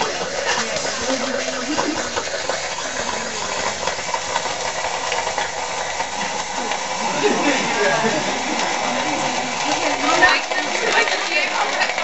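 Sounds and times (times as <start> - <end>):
loud combustion hiss: 0.0 - 12.0.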